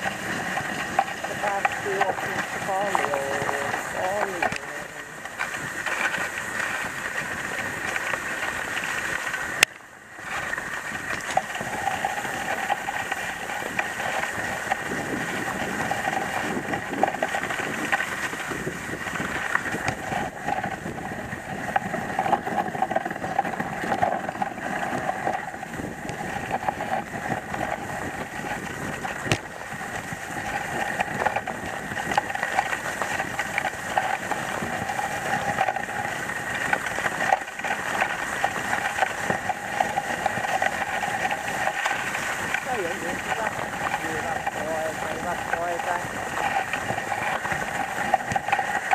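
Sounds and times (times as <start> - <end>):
sled runners scraping on snow: 0.0 - 48.9.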